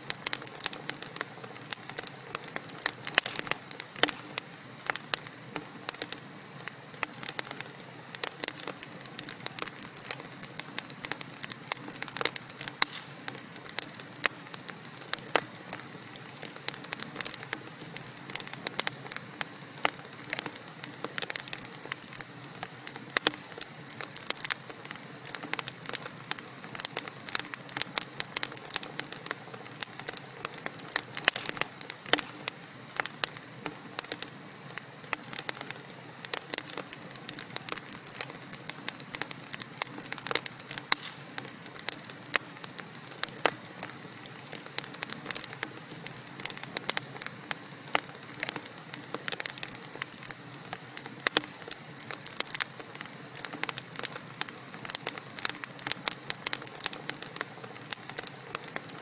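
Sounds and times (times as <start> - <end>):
hiss of flame: 0.0 - 59.0
logs crackling and popping: 0.0 - 59.0.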